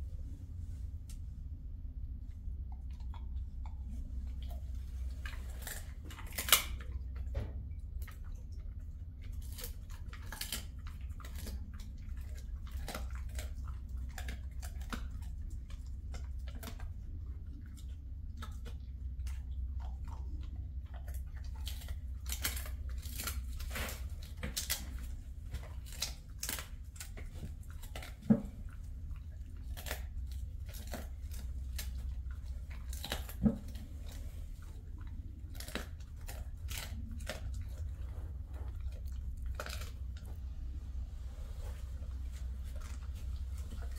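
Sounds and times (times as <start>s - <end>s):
steady low hum: 0.0s - 43.9s
dog crunching a hard snack: 2.7s - 40.4s, 42.3s - 43.9s.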